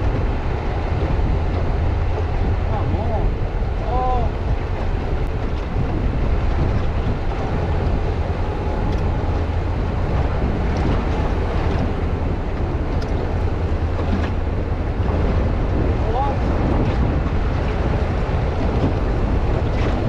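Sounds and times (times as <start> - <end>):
boat engine drone: 0.0 - 20.0
wind buffeting microphone: 0.0 - 20.0.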